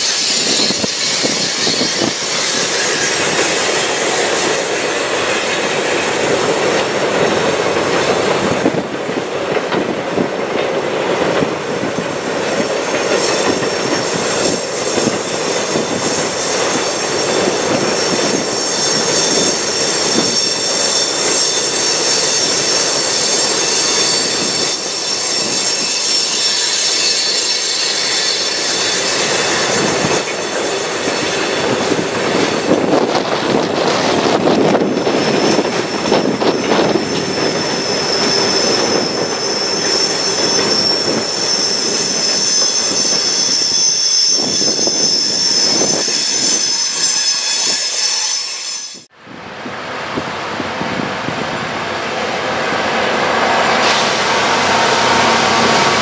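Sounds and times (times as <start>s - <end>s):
train wheel squeal: 0.0s - 49.1s
train wheels rumbling on rail: 0.0s - 56.0s.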